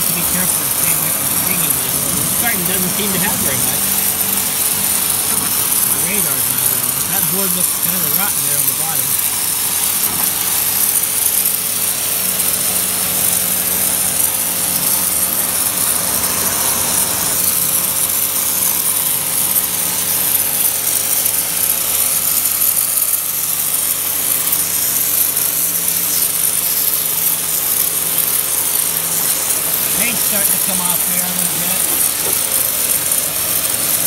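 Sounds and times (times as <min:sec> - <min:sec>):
pressure washer motor humming: 0:00.0 - 0:34.0
water jet spraying wood: 0:00.0 - 0:34.0.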